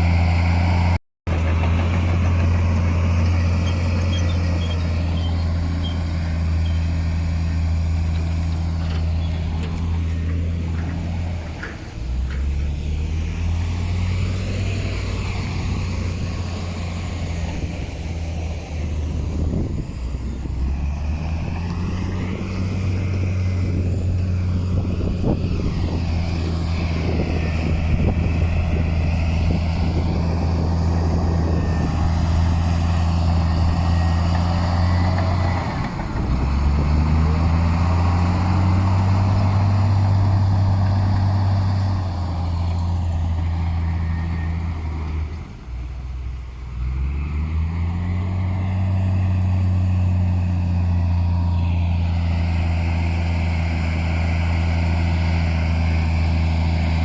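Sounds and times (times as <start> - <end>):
heavy diesel engine running hard: 0.0 - 57.0.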